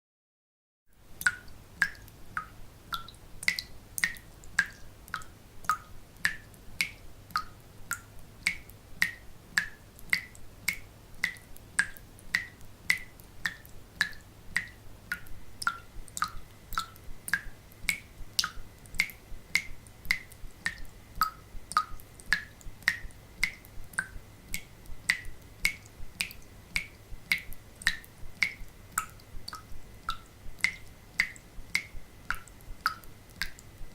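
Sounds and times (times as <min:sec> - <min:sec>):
water dripping into a sink: 0:01.1 - 0:33.9.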